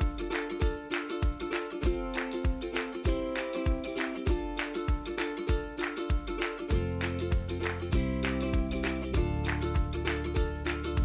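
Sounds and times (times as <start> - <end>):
plucked strings music: 0.0 - 11.0
steady beat: 0.0 - 11.0.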